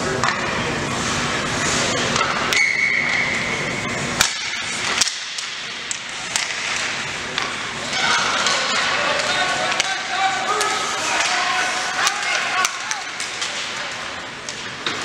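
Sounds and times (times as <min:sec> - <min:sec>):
crowd and rink noise: 0:00.0 - 0:15.0.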